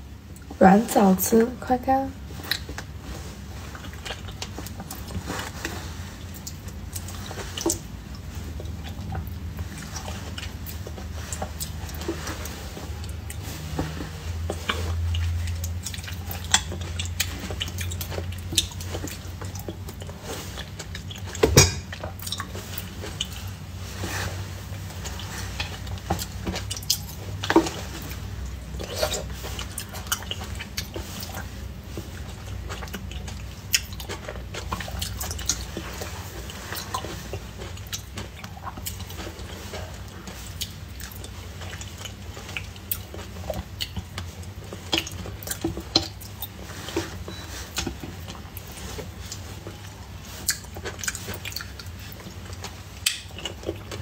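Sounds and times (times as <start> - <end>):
wet chewing mouth noises: 2.2 - 54.0.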